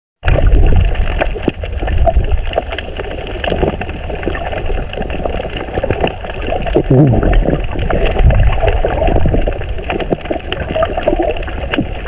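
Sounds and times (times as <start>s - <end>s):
underwater crackles and clicks: 0.2s - 12.0s
underwater rumble of moving water: 0.2s - 12.0s.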